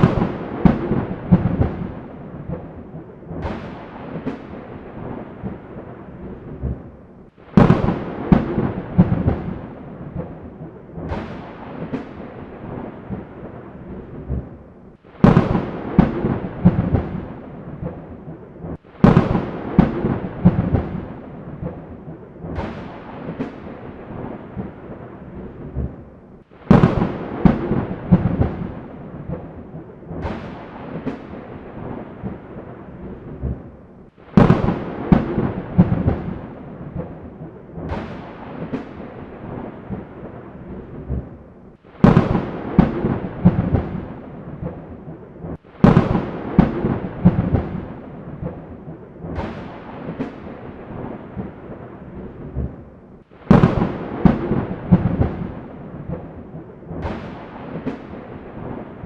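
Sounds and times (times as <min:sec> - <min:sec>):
thunder crack and rumble: 0:00.0 - 0:59.0.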